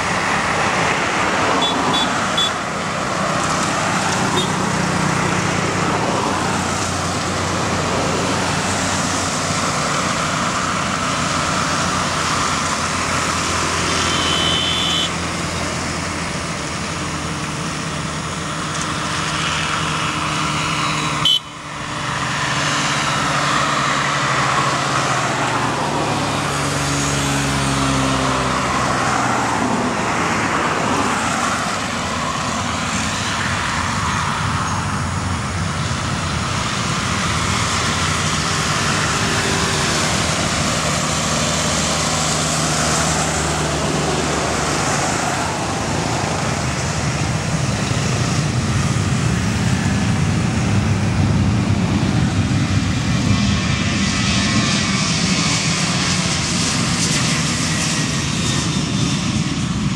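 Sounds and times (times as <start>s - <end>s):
truck engine passing: 0.0s - 59.5s
jet engines at takeoff thrust: 0.0s - 59.9s.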